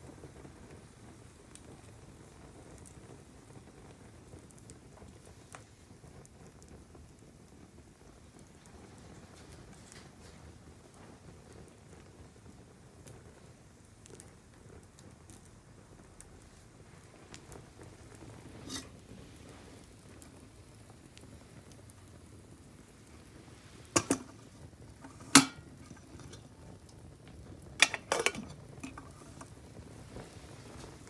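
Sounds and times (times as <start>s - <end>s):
fire crackling and sizzling: 0.0s - 31.0s.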